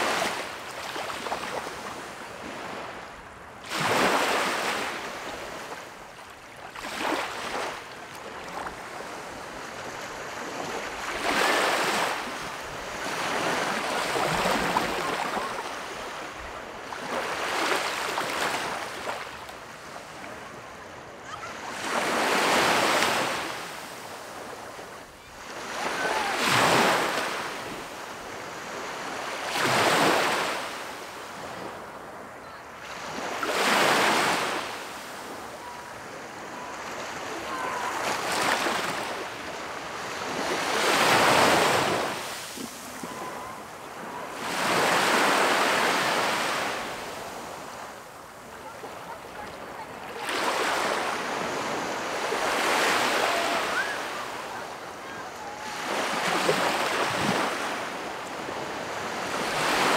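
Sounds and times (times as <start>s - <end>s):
small waves washing on beach: 0.0s - 59.9s.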